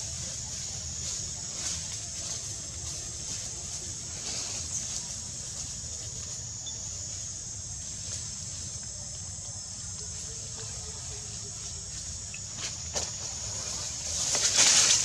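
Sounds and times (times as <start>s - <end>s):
high-pitched hum: 0.0s - 15.0s.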